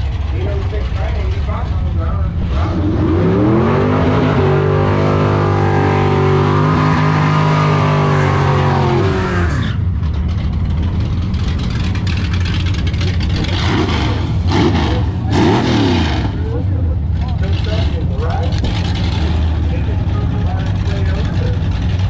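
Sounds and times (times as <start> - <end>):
car engine revving high: 0.0 - 9.8, 11.8 - 22.0.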